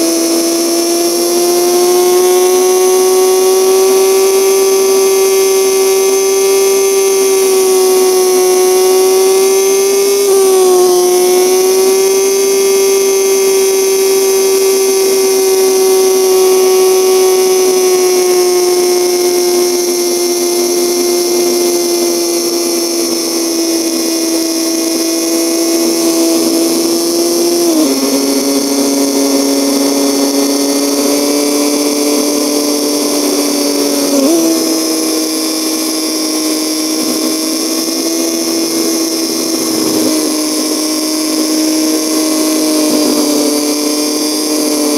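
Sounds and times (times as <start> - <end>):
motorcycle engine whine: 0.0 - 44.9.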